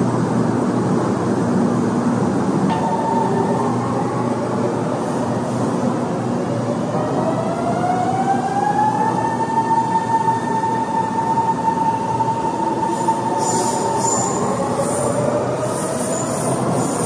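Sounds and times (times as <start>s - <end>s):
subway train wheels rumbling: 0.0s - 17.0s.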